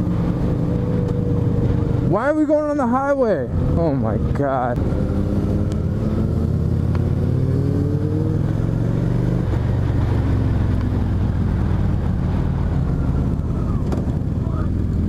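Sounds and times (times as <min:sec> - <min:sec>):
motorcycle engine at speed: 0:00.0 - 0:15.0.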